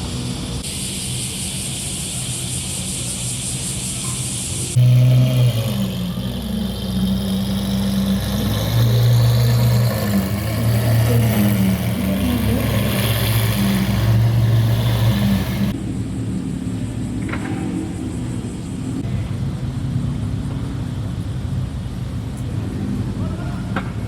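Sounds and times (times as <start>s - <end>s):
car exhausts droning: 0.0s - 19.9s.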